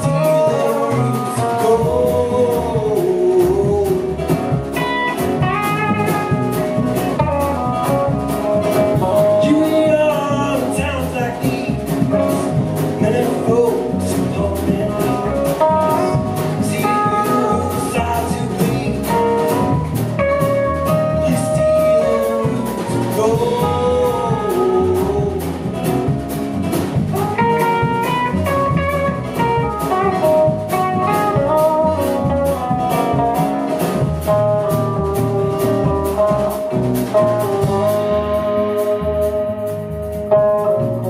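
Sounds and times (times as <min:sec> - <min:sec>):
drum kit steady beat: 0:00.0 - 0:41.0
electric guitar lead with bent notes: 0:00.0 - 0:41.0
upright bass: 0:00.0 - 0:41.0.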